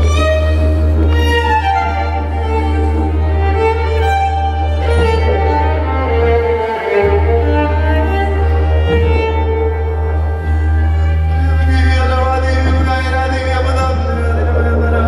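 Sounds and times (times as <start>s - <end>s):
bowed violin melody: 0.0s - 15.0s
didgeridoo drone: 0.0s - 15.0s.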